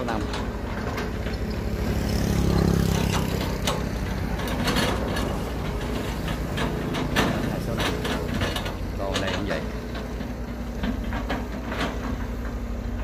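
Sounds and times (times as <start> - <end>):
excavator diesel engines humming: 0.0 - 13.0.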